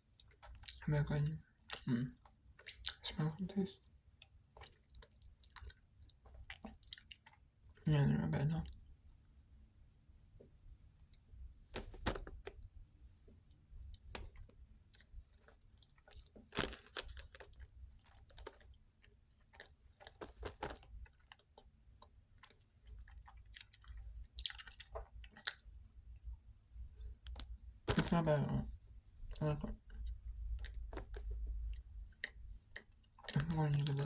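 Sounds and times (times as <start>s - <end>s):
person chewing cookie: 0.0s - 0.8s, 1.7s - 3.1s, 3.8s - 7.8s, 11.0s - 12.7s, 13.4s - 34.0s
mouth clicks and smacks: 0.1s - 0.9s, 1.6s - 7.8s, 11.1s - 12.7s, 13.8s - 34.0s.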